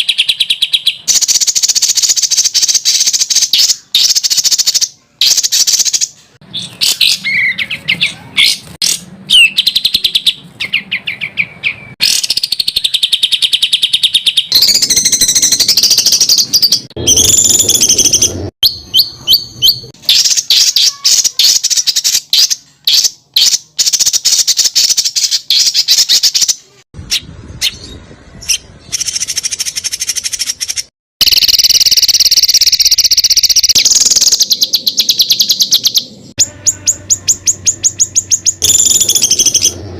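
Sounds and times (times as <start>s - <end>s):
songbirds singing trills: 0.0s - 39.9s.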